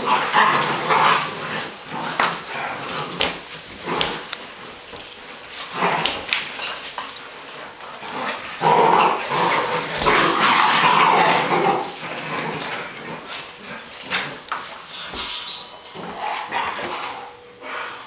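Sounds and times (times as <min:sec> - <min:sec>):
puppies growling and barking: 0:00.0 - 0:18.0.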